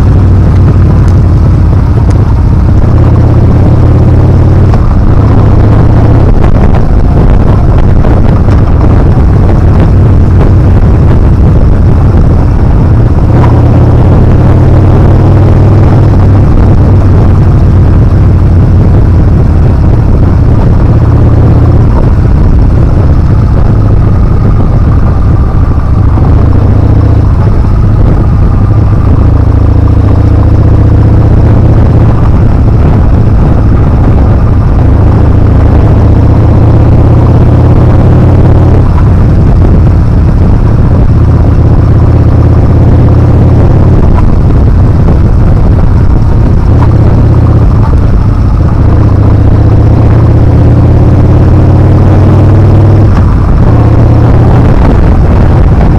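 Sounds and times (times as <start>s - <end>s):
motorcycle engine running: 0.0s - 55.9s
wind on microphone: 0.0s - 55.9s.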